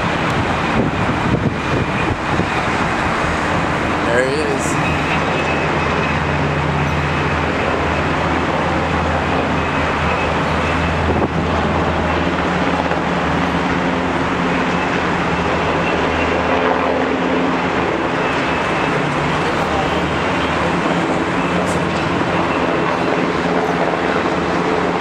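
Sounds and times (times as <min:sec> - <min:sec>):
helicopter flying overhead: 0:00.0 - 0:25.0.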